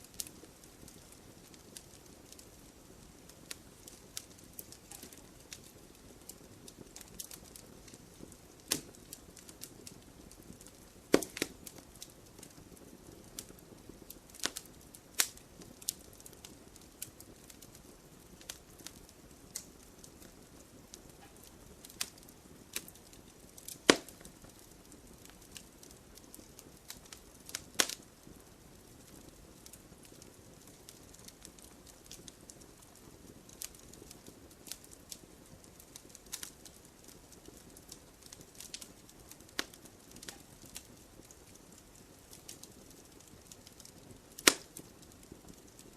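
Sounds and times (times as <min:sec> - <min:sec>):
campfire pops and snaps: 0:00.0 - 0:45.9
fire low steady hiss: 0:00.0 - 0:45.9.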